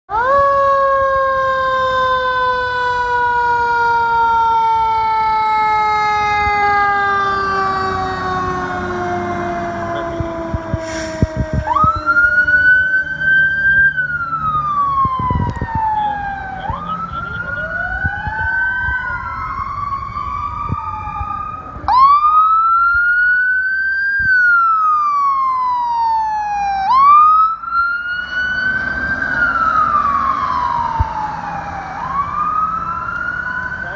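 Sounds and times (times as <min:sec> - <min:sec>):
emergency sirens wailing: 0:00.1 - 0:33.9.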